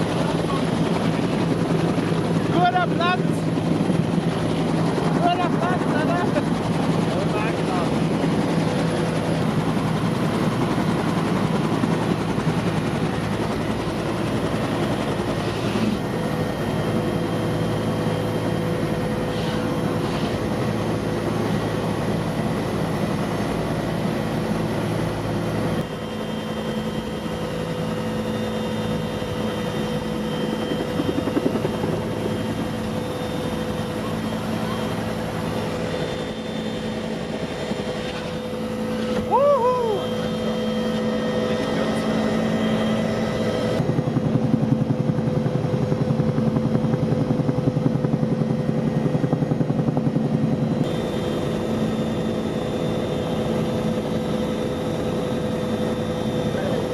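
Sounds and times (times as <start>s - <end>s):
helicopter rotor and engine: 0.0s - 56.9s.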